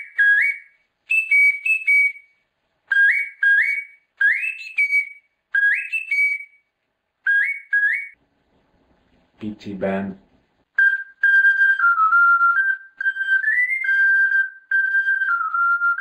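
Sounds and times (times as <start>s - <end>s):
ocarina playing high notes: 0.0s - 8.2s, 10.7s - 16.0s.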